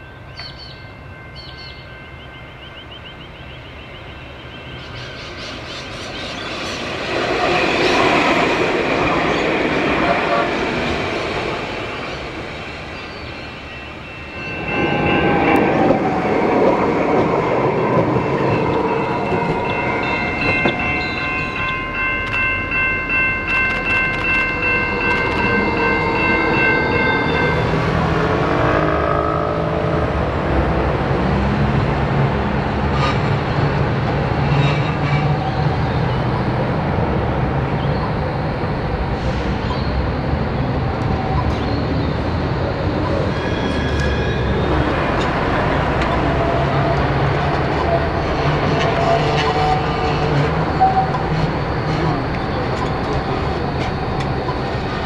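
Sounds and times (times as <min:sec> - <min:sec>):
tram high whine: 0:00.0 - 0:55.0
tram running noise: 0:00.0 - 0:55.0.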